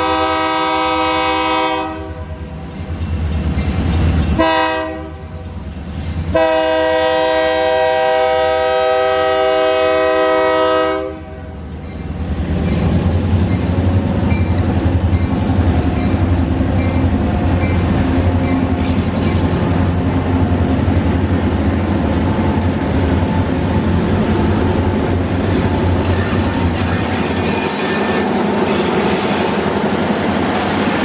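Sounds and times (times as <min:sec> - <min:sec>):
freight train passing: 0:00.0 - 0:31.0.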